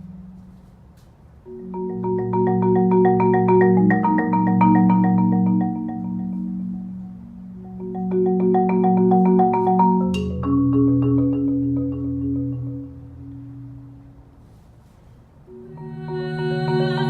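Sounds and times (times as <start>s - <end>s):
solo marimba: 1.4s - 14.4s, 15.5s - 17.0s.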